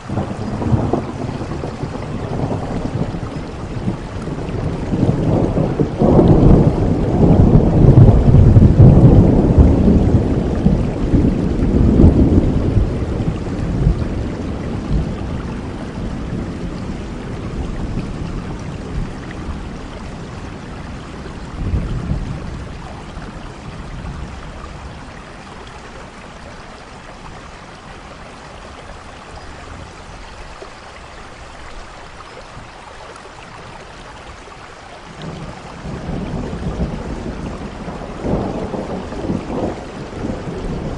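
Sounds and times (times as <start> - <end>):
thunder rumbling: 0.0 - 30.2, 35.1 - 40.9
steady rain: 0.0 - 40.9.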